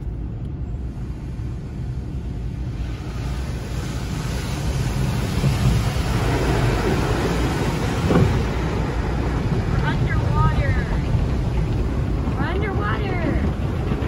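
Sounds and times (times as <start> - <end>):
car wash water spraying: 0.0 - 14.0
low rumble: 0.0 - 14.0.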